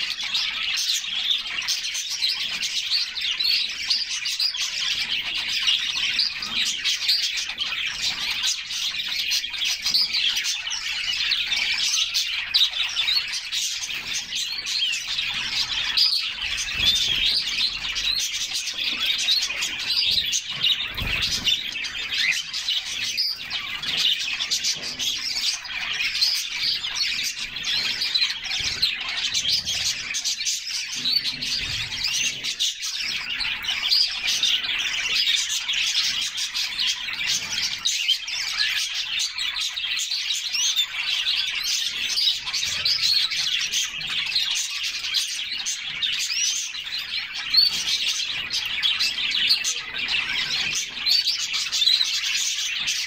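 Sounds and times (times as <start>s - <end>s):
canaries chirping and singing: 0.0s - 53.0s.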